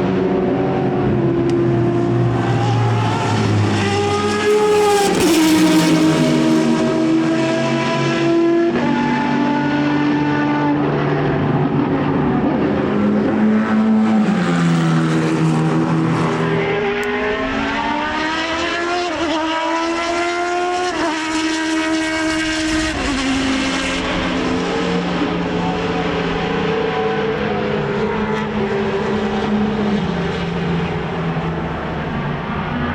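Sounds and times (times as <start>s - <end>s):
racing car engine with gear changes: 0.0s - 32.9s.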